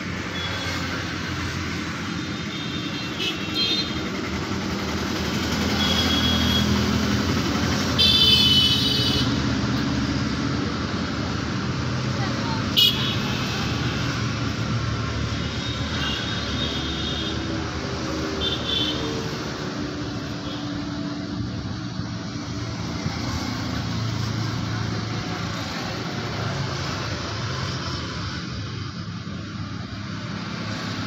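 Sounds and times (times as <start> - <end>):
motorcycles and cars passing: 0.0 - 31.0.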